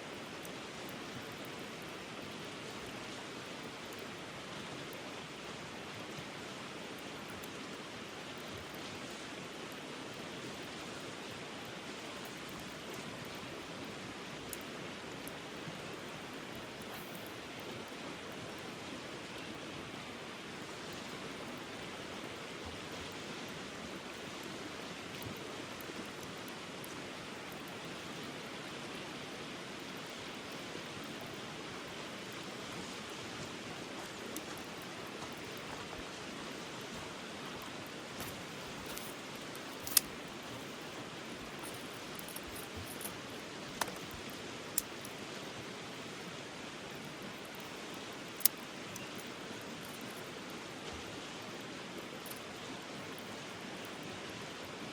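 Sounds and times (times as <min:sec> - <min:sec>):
stream water flowing: 0:00.0 - 0:54.9.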